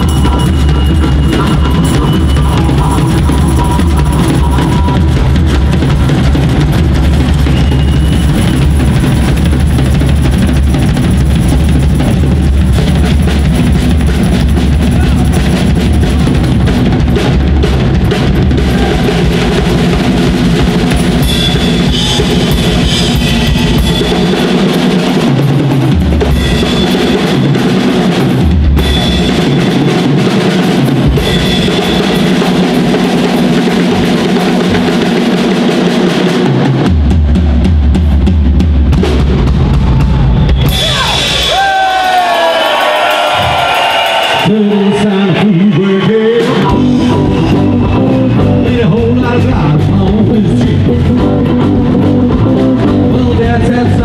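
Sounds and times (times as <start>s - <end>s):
drum kit beat: 0.0s - 54.0s
rock band playing loudly: 0.0s - 54.0s.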